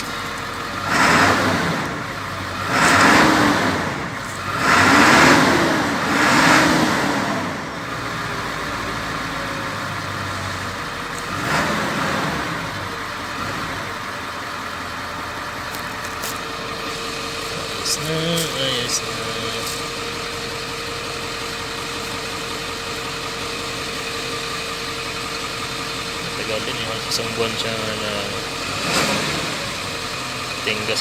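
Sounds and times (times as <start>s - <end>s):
diesel engine idling and revving: 0.0s - 31.0s.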